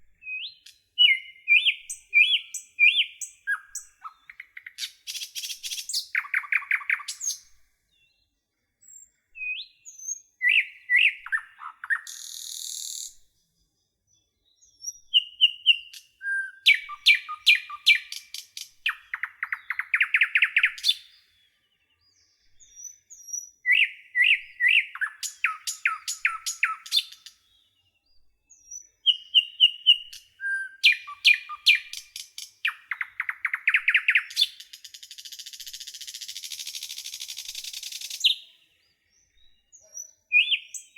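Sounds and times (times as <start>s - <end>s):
nightingale singing: 0.0s - 8.2s, 8.8s - 40.9s.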